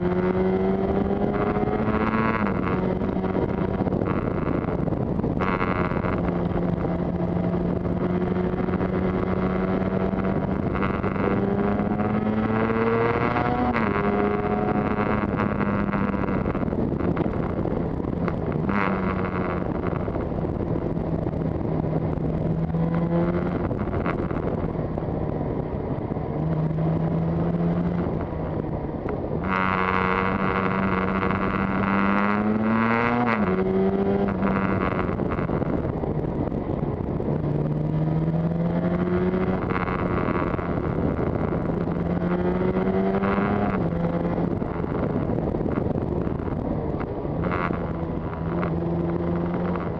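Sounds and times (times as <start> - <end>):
two-stroke motorcycle engine revving: 0.0 - 25.2, 25.9 - 49.9.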